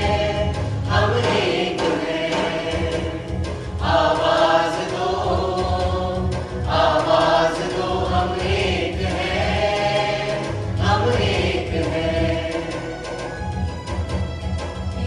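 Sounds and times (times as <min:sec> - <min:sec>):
group singing held notes: 0:00.0 - 0:13.1
instrumental backing with beat: 0:00.0 - 0:15.0.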